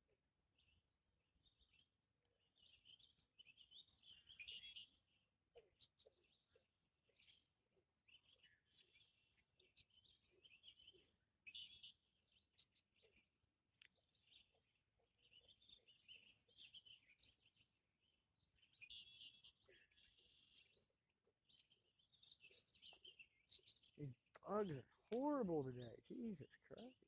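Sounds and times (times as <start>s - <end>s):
low outdoor background noise: 0.2s - 27.0s
faint bird chirping: 0.4s - 27.0s.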